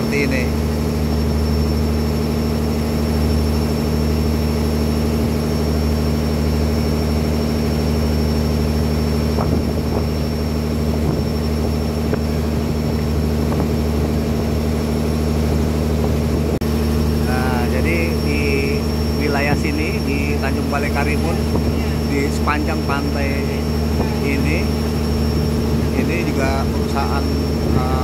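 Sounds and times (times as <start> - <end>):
motorboat engine droning: 0.0 - 28.0.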